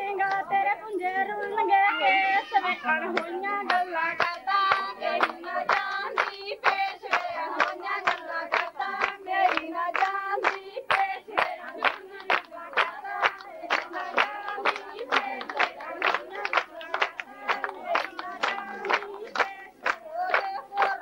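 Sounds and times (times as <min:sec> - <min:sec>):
rhythmic hand clapping: 0:00.0 - 0:01.7, 0:03.0 - 0:21.0
women singing together: 0:00.0 - 0:21.0.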